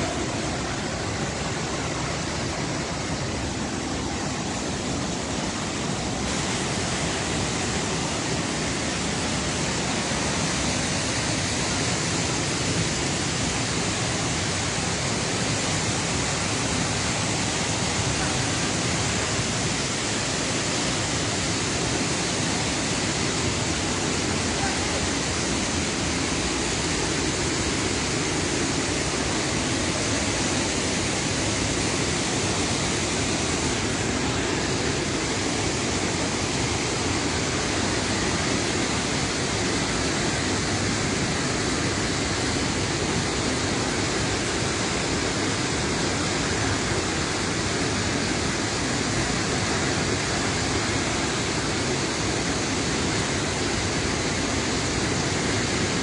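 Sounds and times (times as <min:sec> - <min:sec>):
water rushing over spillway: 0:00.0 - 0:56.0.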